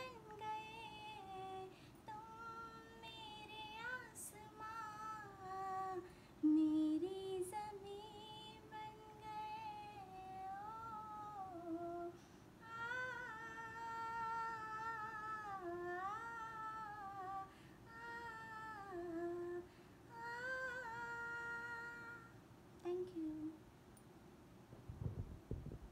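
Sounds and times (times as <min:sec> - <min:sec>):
woman humming a melody: 0:00.0 - 0:22.3, 0:22.9 - 0:23.6.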